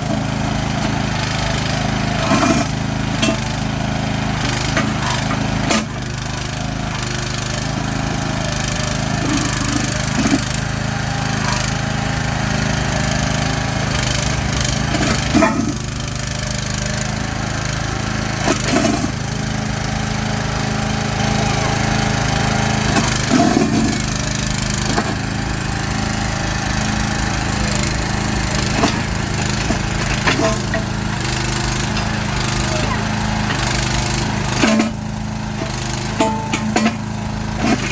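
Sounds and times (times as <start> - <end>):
excavator engine running: 0.0 - 37.9.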